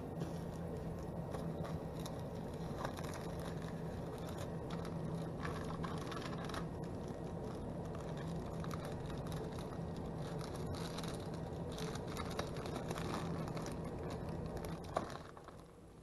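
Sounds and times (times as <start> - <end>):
plastic bag crinkling: 0.0 - 16.0
steady low hum: 0.0 - 16.0.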